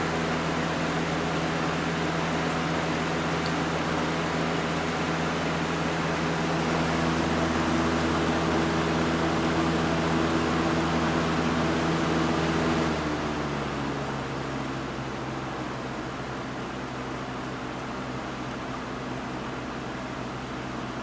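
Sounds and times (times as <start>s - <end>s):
fan motor hum: 0.0s - 21.0s.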